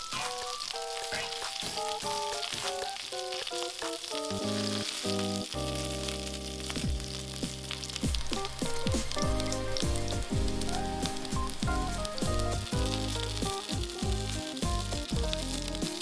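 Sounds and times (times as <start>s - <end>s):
background music: 0.0s - 16.0s
eggplant sizzling in oil: 0.0s - 16.0s.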